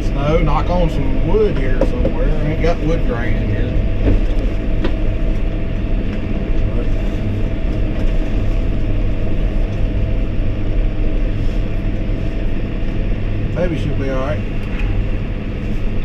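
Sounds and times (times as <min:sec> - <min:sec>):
snow blower moaning: 0:00.0 - 0:16.0
tractor running under load: 0:00.0 - 0:16.0.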